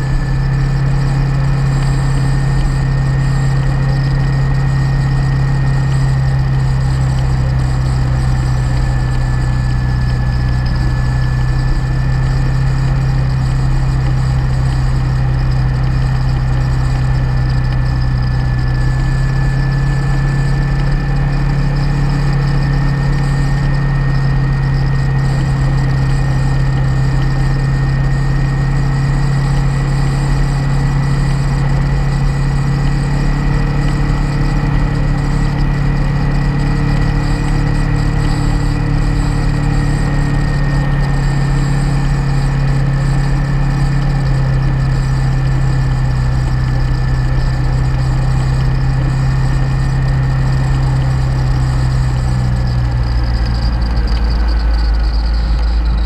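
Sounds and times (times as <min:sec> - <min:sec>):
motorcycle engine cruising: 0:00.0 - 0:56.0
thin high whine: 0:00.0 - 0:56.0.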